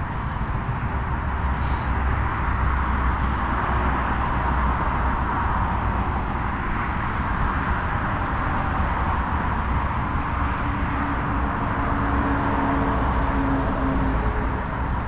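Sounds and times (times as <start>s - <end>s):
outdoor background roar: 0.0s - 15.0s.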